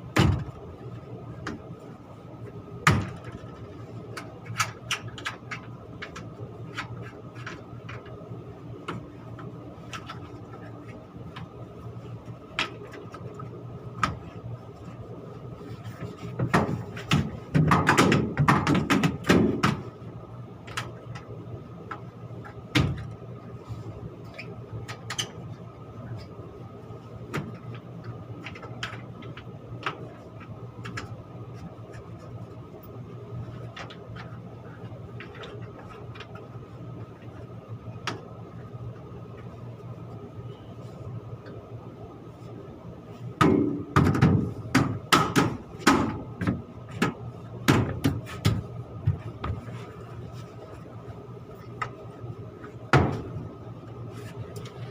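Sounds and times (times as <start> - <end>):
machinery hum: 0.0 - 54.9.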